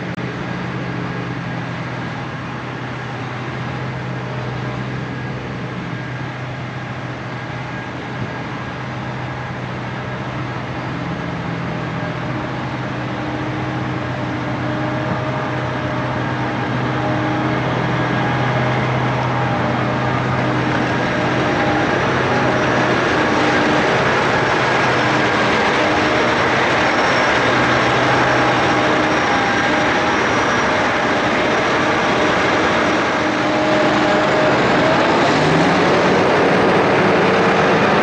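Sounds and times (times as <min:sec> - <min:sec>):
harvester engine drone: 0:00.0 - 0:38.0
high whining tones: 0:02.0 - 0:38.0.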